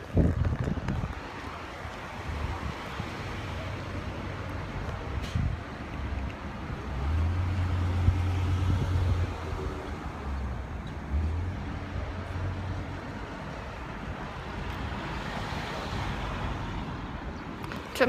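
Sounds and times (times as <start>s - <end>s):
vehicles driving past: 0.0s - 18.0s.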